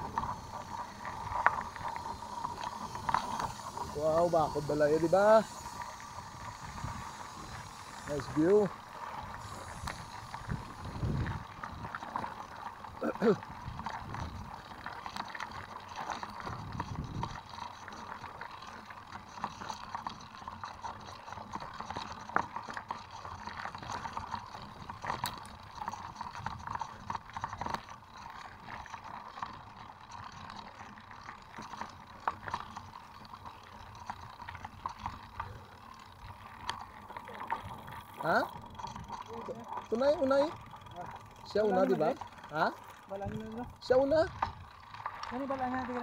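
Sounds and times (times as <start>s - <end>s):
bike clicking and rattling: 0.0s - 46.0s
bike tyres on gravel: 0.0s - 46.0s.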